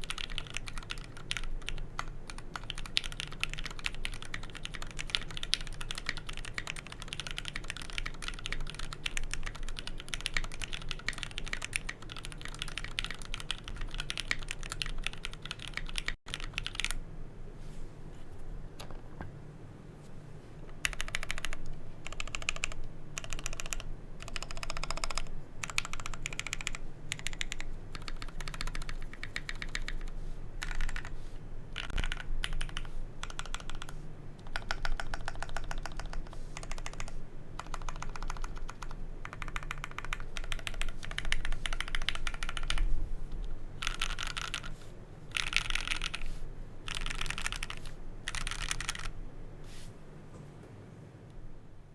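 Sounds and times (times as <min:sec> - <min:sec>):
typing on mechanical keyboard: 0:00.0 - 0:17.0, 0:20.8 - 0:31.1, 0:31.8 - 0:42.9, 0:43.8 - 0:46.3, 0:46.9 - 0:49.1.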